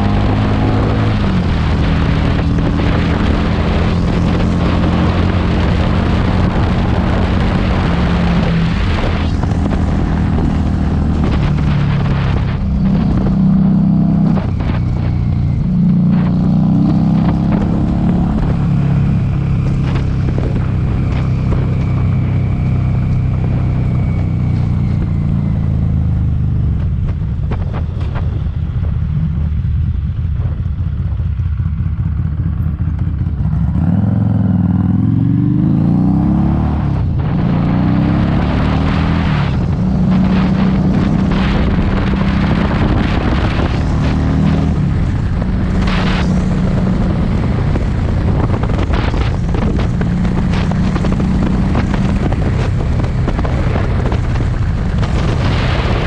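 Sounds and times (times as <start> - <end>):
motorcycle engine accelerating: 0.0 - 56.0
wind buffeting microphone: 0.0 - 56.0.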